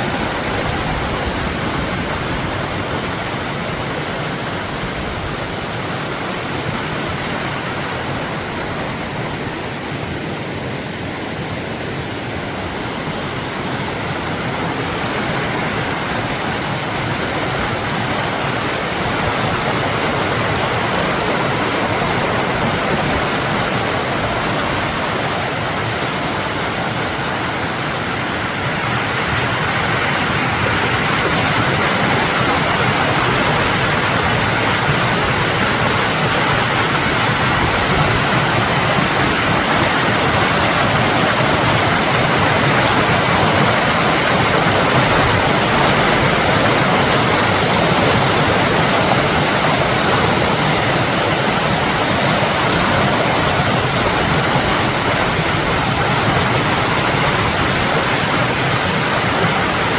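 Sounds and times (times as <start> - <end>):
rushing creek water: 0.0 - 59.9.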